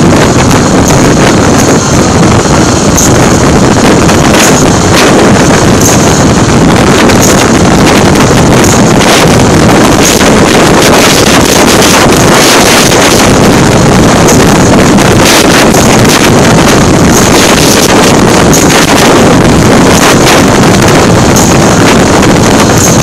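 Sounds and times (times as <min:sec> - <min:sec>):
motorcycle engine: 0:00.0 - 0:23.0
road noise: 0:00.0 - 0:23.0
wind buffeting microphone: 0:00.0 - 0:23.0.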